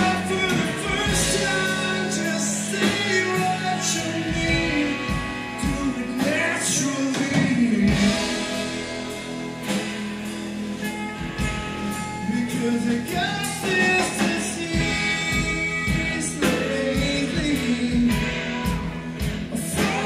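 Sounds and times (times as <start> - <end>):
person singing: 0.0 - 9.0, 12.0 - 20.0
live rock band playing: 0.0 - 20.0.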